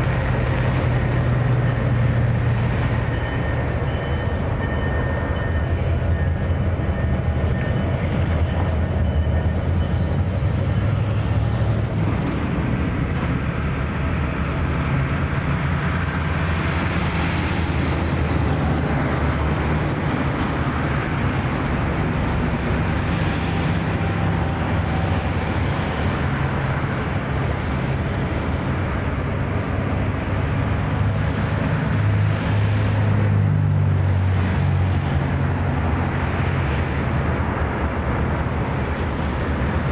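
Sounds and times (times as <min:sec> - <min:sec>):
locomotive engines idling: 0:00.0 - 0:39.9.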